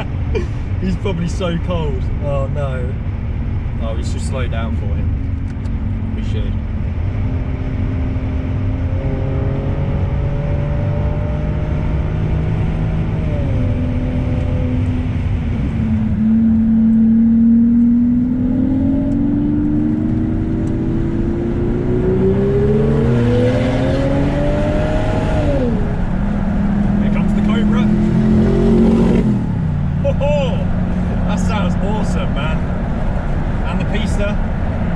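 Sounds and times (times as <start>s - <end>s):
car engine accelerating: 0.0s - 34.9s
low engine drone: 0.0s - 34.9s.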